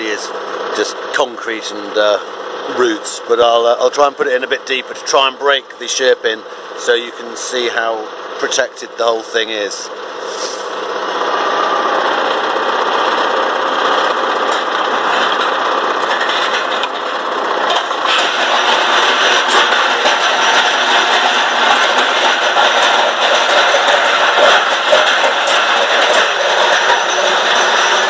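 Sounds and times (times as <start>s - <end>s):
tractor engine under load: 0.0s - 28.0s.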